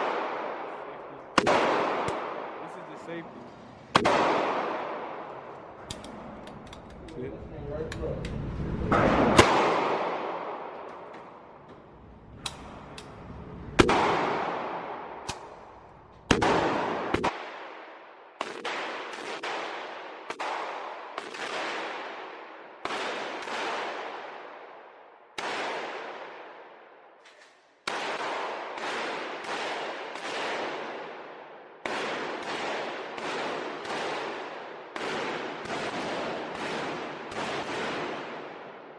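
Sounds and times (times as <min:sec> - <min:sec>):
gunshots with echo: 0:00.0 - 0:06.5, 0:08.8 - 0:13.0, 0:13.6 - 0:24.8, 0:25.4 - 0:26.8, 0:27.8 - 0:38.9.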